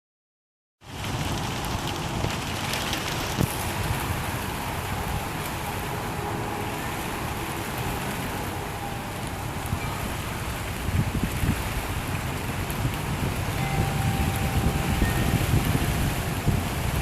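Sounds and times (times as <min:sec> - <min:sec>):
rain falling on leaves: 0:00.8 - 0:17.0
wind rumble on microphone: 0:00.9 - 0:17.0.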